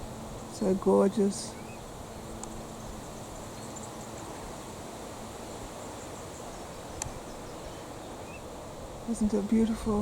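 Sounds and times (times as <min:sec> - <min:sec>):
wind rustling through trees: 0:00.0 - 0:10.0.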